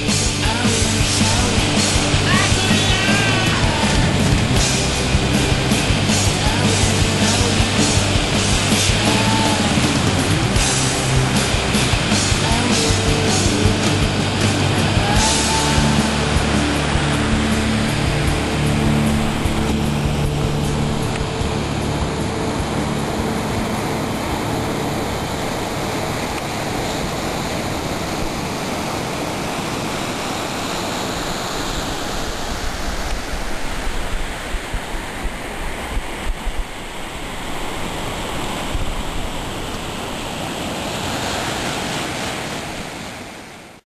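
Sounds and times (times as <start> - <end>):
wind on microphone: 0.0 - 43.3
ocean surf on beach: 0.0 - 43.8.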